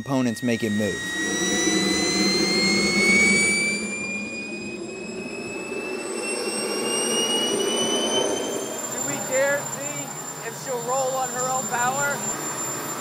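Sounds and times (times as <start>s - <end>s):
jet turbine whine spooling up: 0.0s - 13.0s
low rushing noise: 0.5s - 13.0s.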